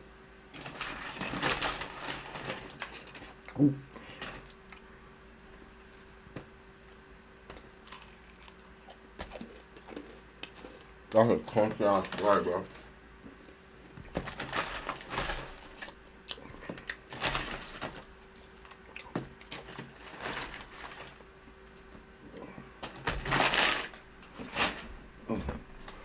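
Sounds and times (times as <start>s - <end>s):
faint steady hum: 0.0s - 26.0s
chewing and crunching food: 0.5s - 6.2s, 6.8s - 24.7s.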